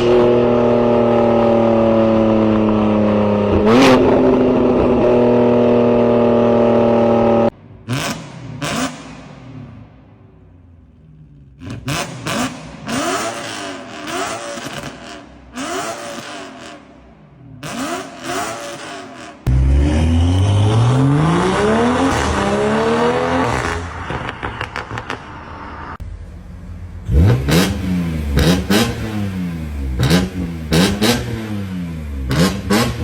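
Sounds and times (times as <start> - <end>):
car exhaust revving: 0.0 - 33.0.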